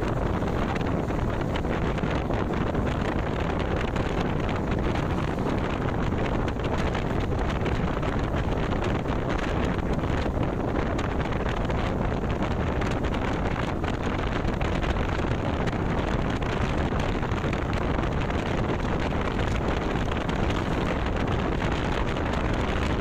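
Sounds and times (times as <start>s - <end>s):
road and motorcycle engine noise: 0.0s - 23.0s
wind noise on microphone: 0.0s - 23.0s.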